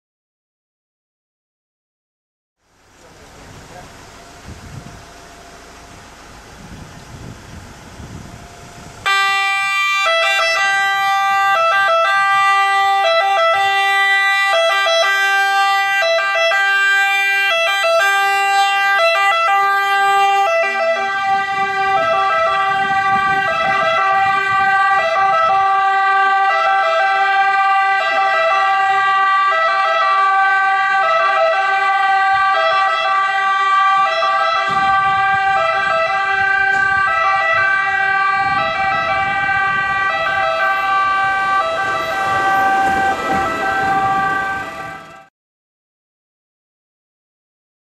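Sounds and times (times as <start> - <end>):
two-tone ambulance siren: 4.2 - 45.3.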